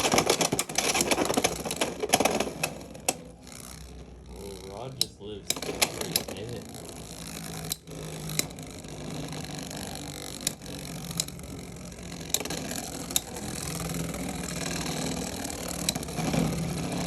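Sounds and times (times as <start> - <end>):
spinning tops whirring: 0.0 - 17.0
tops clicking against each other: 0.0 - 17.0.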